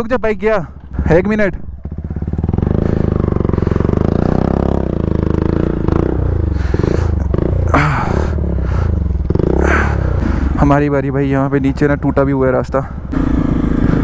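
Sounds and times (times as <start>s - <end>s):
dirt bike engines revving: 0.8s - 14.0s.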